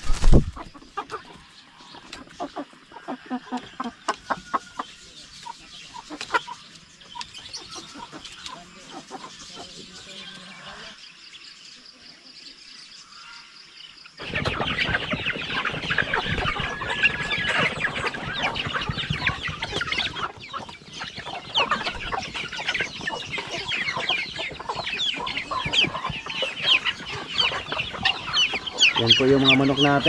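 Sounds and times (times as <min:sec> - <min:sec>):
chickens clucking and peeping: 0:00.0 - 0:30.0.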